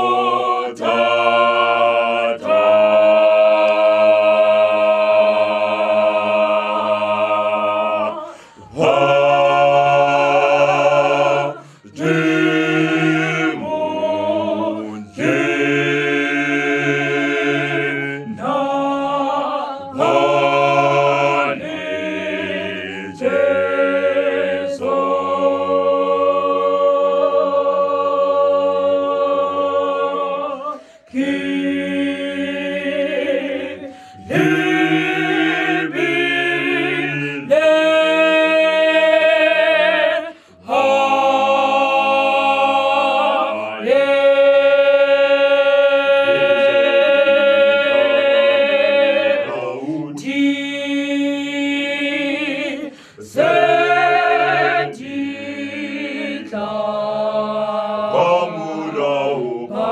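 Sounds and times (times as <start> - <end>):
vocal group singing a cappella: 0.0 - 59.9.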